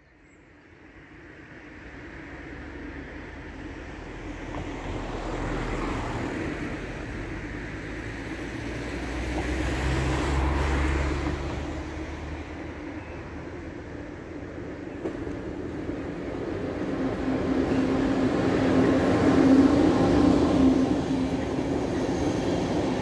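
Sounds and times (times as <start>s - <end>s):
passenger train rumble: 0.0s - 23.0s
road traffic drone: 0.0s - 23.0s.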